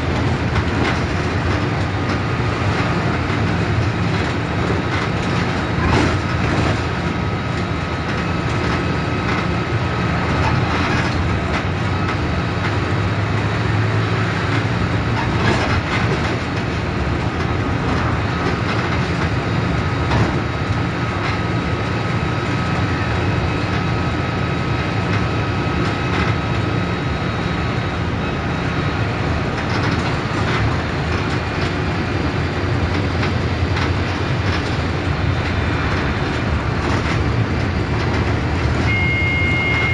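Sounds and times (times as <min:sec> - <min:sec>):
bus body rattling and knocking: 0:00.0 - 0:39.9
bus diesel engine running: 0:00.0 - 0:39.9.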